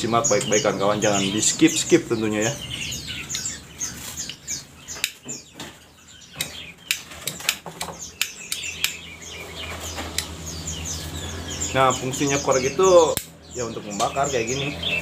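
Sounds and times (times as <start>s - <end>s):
caged birds chirping: 0.0s - 15.0s.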